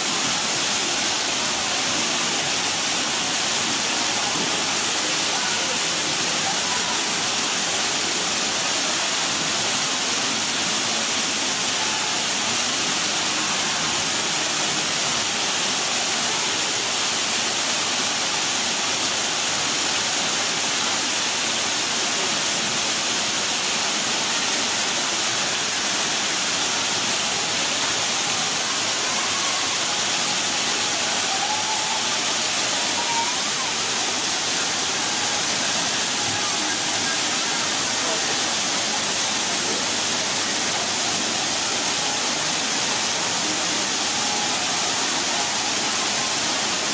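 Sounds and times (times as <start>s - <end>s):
waterfall pouring into pool: 0.0s - 46.9s.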